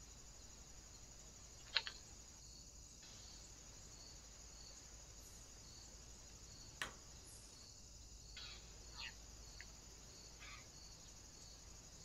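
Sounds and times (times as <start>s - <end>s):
faint insect chirping: 0.0s - 12.0s
steady high hiss: 0.0s - 12.0s.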